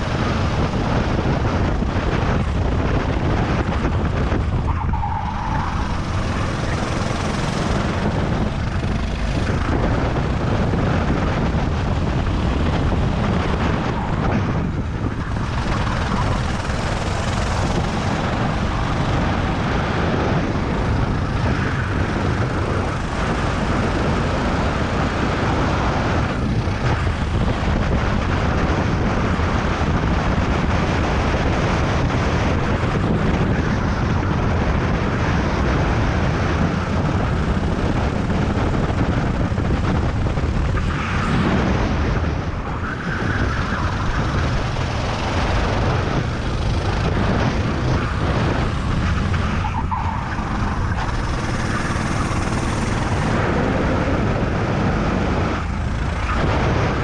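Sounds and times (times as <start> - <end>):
kart engine running hard: 0.0 - 57.0
rush of kart at speed: 0.0 - 57.0.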